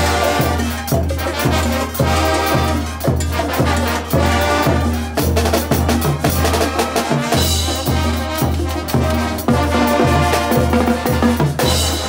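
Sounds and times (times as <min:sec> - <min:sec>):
drums and cymbals beat: 0:00.0 - 0:12.0
trumpets and trombones: 0:00.0 - 0:12.0
tuba bass line: 0:00.0 - 0:12.0.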